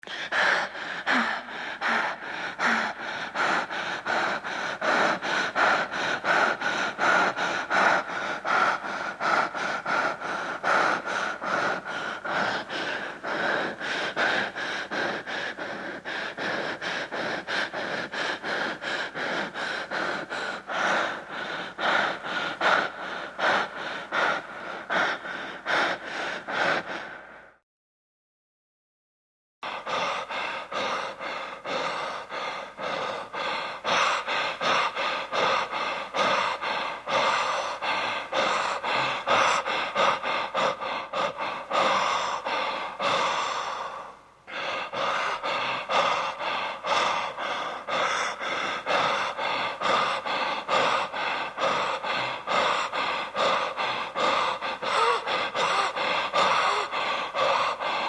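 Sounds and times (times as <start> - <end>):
person panting: 0.0 - 27.6, 29.6 - 58.0.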